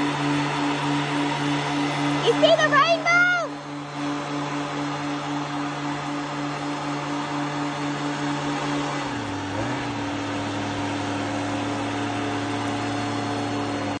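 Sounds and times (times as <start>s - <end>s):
leaf blowers running: 0.0s - 14.0s.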